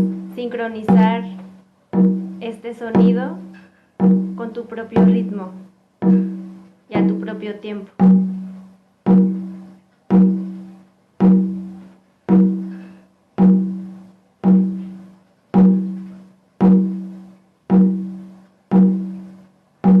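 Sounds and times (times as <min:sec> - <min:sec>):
drum beats with low tone: 0:00.0 - 0:20.0.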